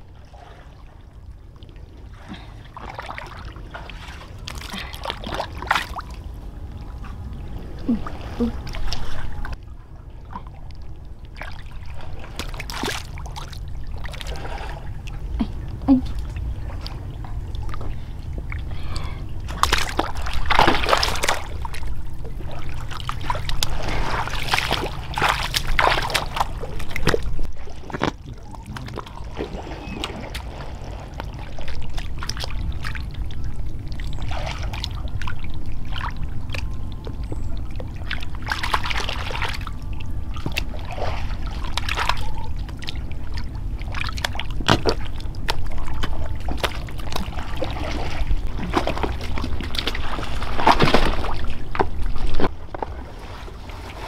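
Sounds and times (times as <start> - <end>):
steady low rumble: 0.0 - 54.0
water splashing and sloshing: 0.0 - 54.0.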